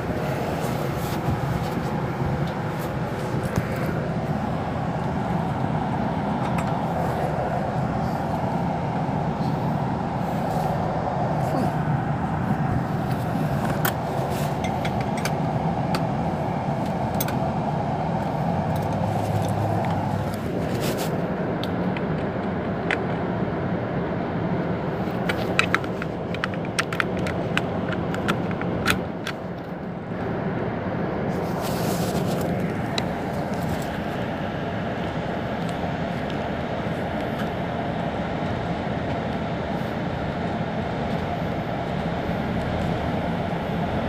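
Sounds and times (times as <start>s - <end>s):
diesel bus engine idling: 0.0s - 44.0s.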